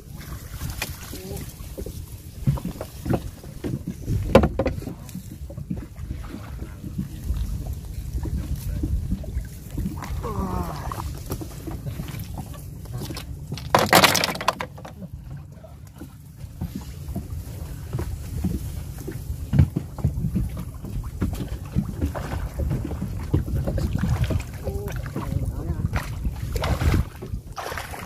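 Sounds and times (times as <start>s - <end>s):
wind rumbling on microphone: 0.0s - 13.8s, 14.9s - 28.0s
water sloshing: 0.0s - 28.0s.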